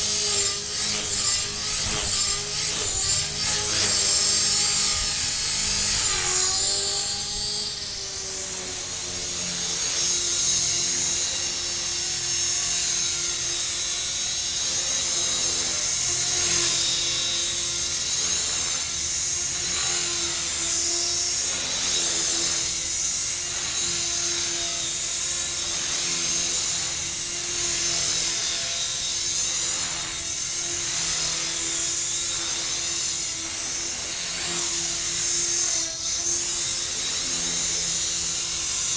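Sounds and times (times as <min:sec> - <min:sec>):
high motor whine: 0:00.0 - 0:38.9
rc helicopter rotor drone: 0:00.0 - 0:38.9.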